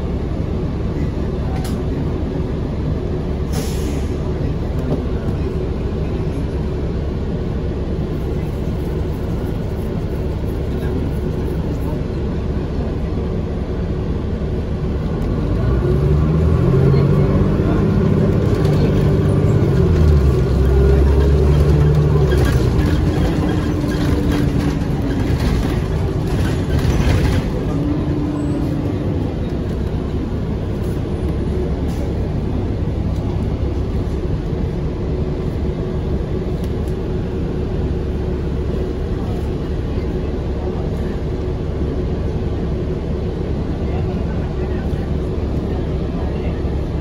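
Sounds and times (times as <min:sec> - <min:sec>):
bus engine and road noise: 0:00.0 - 0:47.0.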